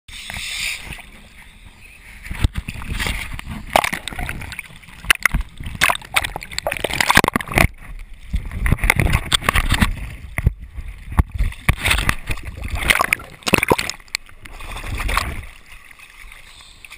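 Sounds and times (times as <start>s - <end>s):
seawater sloshing and splashing: 0.2s - 16.9s
water gurgling: 0.3s - 16.9s.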